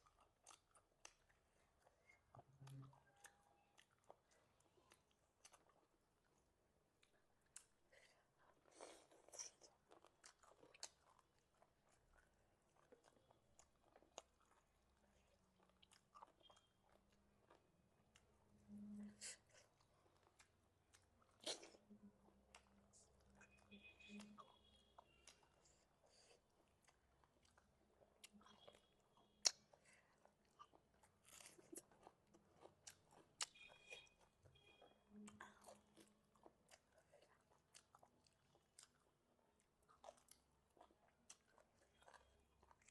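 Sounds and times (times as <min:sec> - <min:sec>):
person chewing food: 0:00.0 - 0:18.6, 0:19.3 - 0:42.9.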